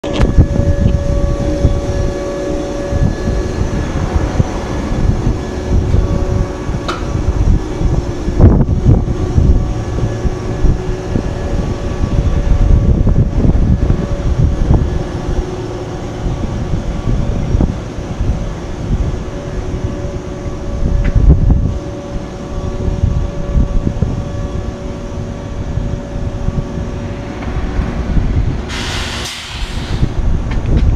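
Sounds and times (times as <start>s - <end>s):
train cars rolling past: 0.0s - 30.9s.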